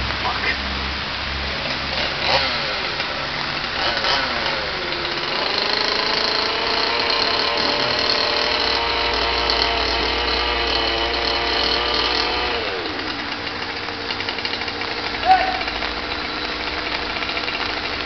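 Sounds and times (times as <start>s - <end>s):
engine running at high speed: 0.0s - 18.0s.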